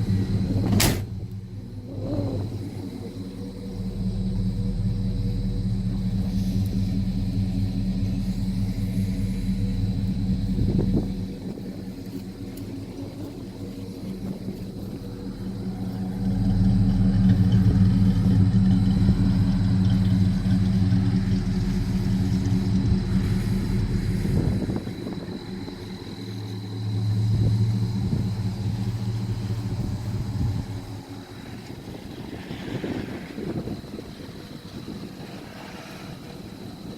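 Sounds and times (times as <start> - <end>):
truck engine idling and revving: 0.0 - 36.9.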